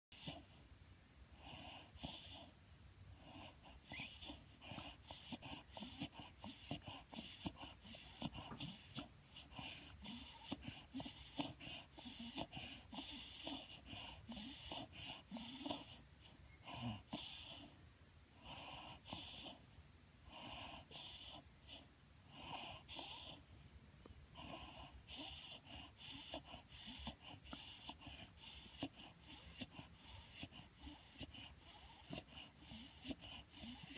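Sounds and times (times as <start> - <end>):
dog breathing through nose: 0.1 - 0.5, 1.4 - 2.6, 3.2 - 17.8, 18.4 - 19.6, 20.3 - 23.4, 24.4 - 33.9.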